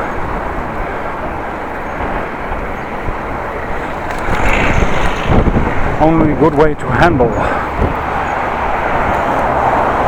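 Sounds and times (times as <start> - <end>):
strong wind buffeting microphone: 0.0 - 10.0.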